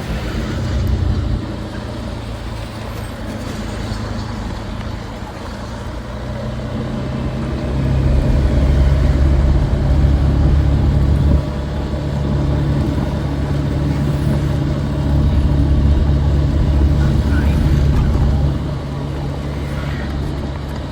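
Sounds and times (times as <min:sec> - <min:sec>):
street traffic: 0:00.0 - 0:20.9
vehicle engine running nearby: 0:00.0 - 0:20.9.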